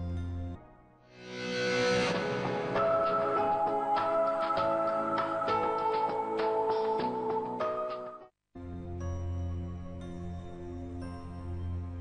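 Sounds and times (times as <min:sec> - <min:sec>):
instrumental theme music: 0:00.0 - 0:12.0.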